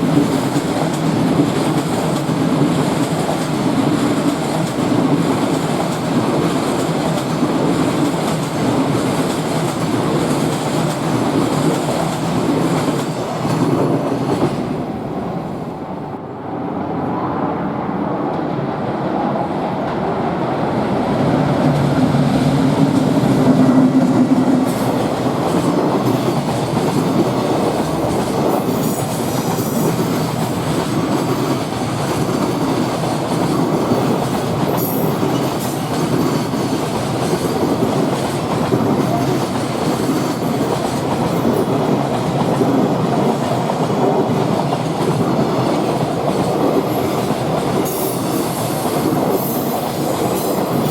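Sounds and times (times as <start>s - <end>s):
train wheels clattering over rails: 0.0s - 14.9s, 19.6s - 50.9s.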